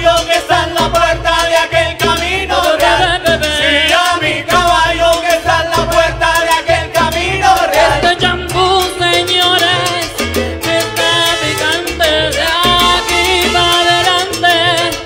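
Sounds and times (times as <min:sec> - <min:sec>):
salsa band playing: 0:00.0 - 0:15.0.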